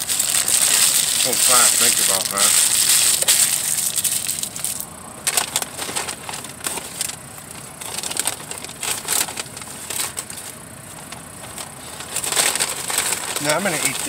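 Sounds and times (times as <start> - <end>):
paper wrapper rustling: 0.0 - 14.0.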